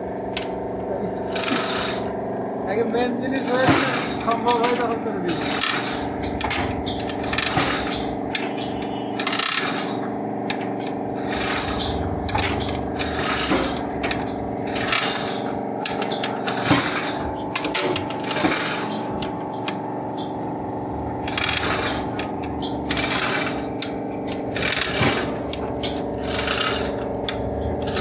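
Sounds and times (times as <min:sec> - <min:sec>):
steady low hum: 0:00.0 - 0:28.0
hand tools scraping on metal: 0:01.1 - 0:02.2, 0:03.0 - 0:28.0.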